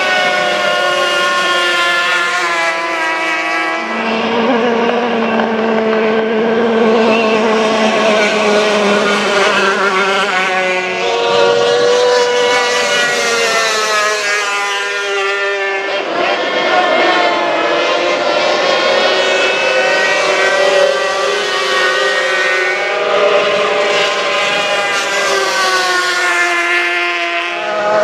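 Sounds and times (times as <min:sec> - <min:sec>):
racing outboard engines: 0:00.0 - 0:28.0.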